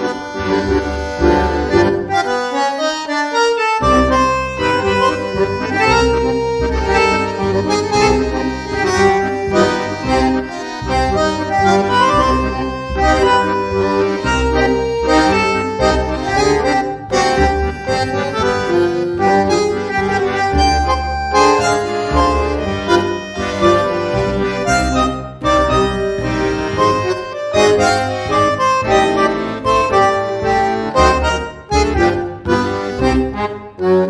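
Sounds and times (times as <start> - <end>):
accordion music: 0.0 - 34.0.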